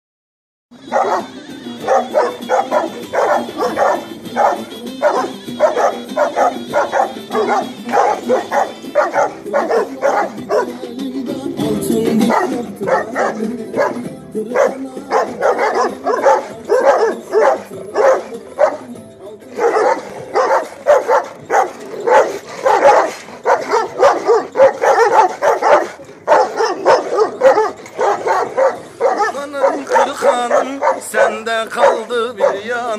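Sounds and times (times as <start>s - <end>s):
dogs barking: 0.7s - 32.9s.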